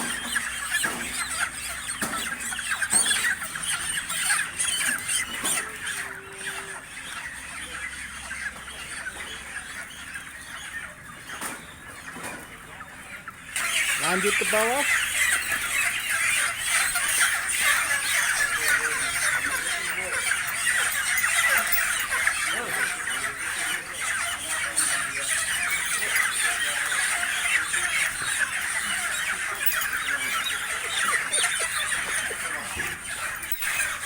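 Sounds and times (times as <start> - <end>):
chickens squawking and squealing: 0.0 - 34.0.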